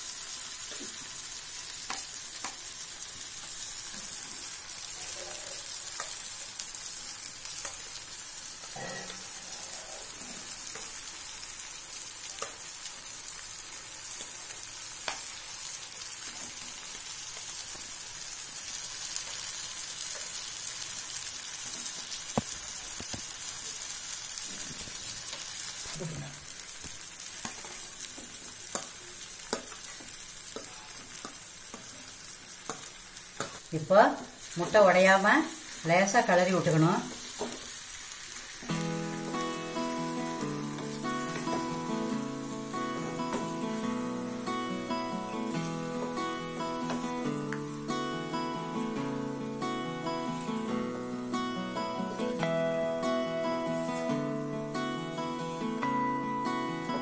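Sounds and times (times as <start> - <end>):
masala sizzling in pan: 0.0 - 57.0.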